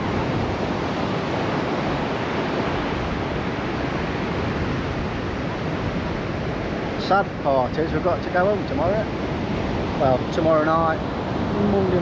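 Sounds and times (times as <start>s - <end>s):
sea surf on beach: 0.0s - 12.0s
wind on microphone: 0.0s - 12.0s.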